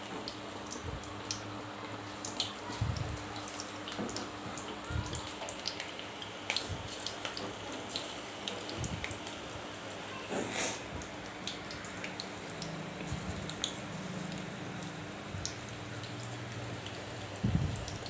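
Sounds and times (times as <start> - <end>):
batter deep-frying in oil: 0.0 - 18.0.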